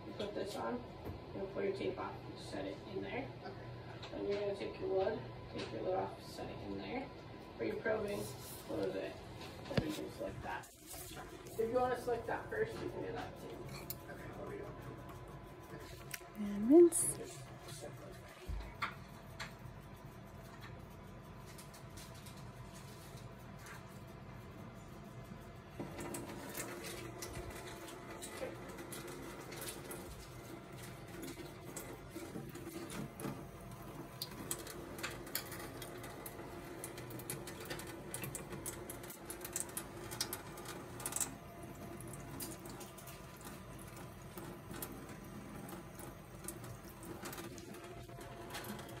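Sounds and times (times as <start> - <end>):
mechanical hum: 0.0 - 49.0.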